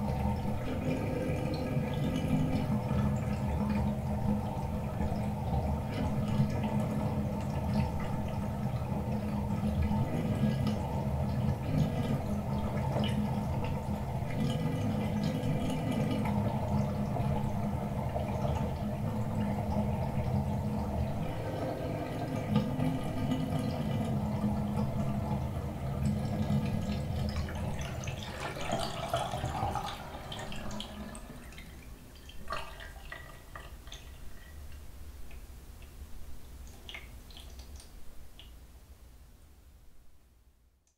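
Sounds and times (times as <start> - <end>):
water gurgling down drain: 0.0 - 34.6
water drips: 0.0 - 38.6.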